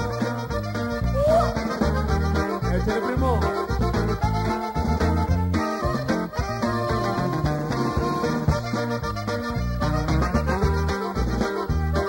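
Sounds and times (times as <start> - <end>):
instrumental band music: 0.0 - 12.0
rhythmic bass line: 0.0 - 12.0.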